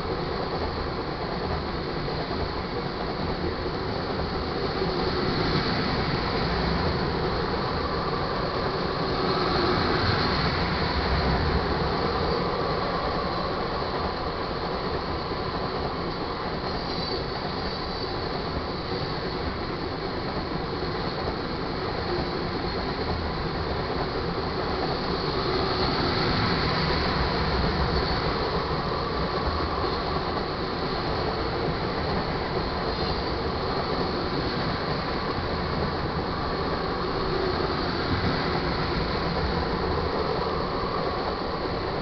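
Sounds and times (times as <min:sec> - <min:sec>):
faint high wheel squeal: 0:00.0 - 0:42.0
train wheels rumbling on rail: 0:00.0 - 0:42.0.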